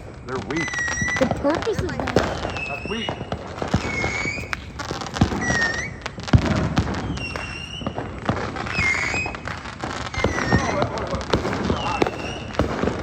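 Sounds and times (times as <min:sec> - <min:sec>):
fireworks bang: 0:00.0 - 0:13.0
fireworks pops and crackles: 0:00.0 - 0:13.0
fireworks whistles: 0:00.0 - 0:13.0.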